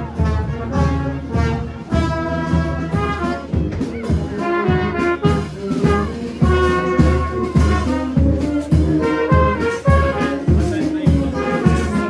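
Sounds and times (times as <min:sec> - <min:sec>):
marching brass band playing: 0:00.0 - 0:12.0.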